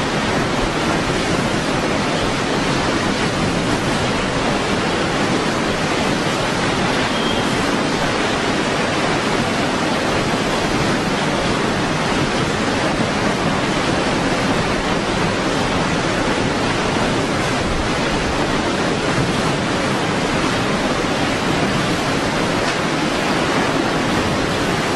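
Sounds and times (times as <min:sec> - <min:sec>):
strong wind rushing: 0:00.0 - 0:24.9.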